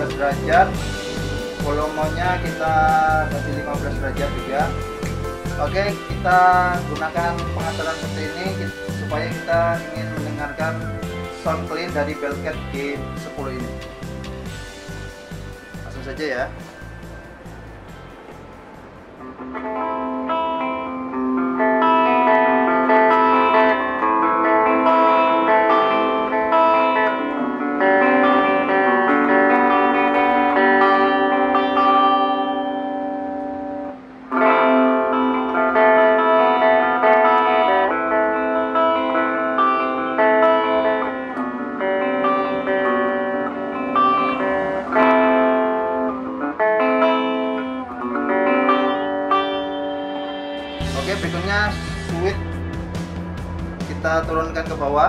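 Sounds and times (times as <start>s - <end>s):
clean electric guitar through amp: 0.0s - 55.0s.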